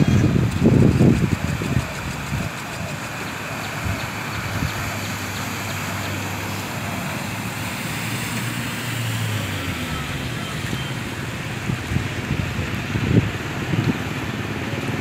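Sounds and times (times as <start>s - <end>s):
car engines humming: 0.0s - 15.0s
cars driving through water: 0.0s - 15.0s.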